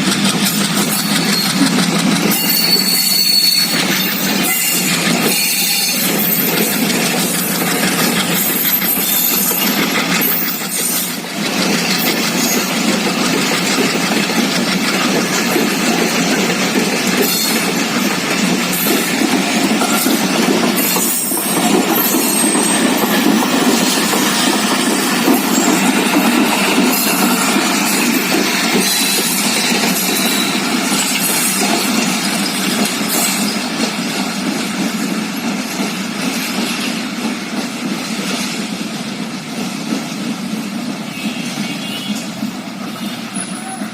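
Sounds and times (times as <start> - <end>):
locomotive engine running: 0.0 - 43.9
train moving: 0.0 - 43.9.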